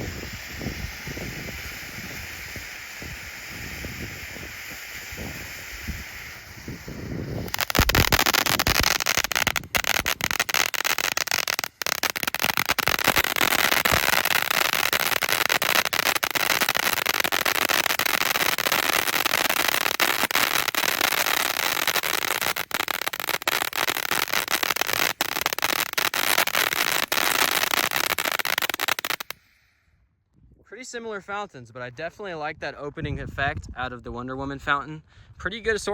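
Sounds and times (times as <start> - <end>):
fountain fireworks hissing and crackling: 0.0 - 29.4.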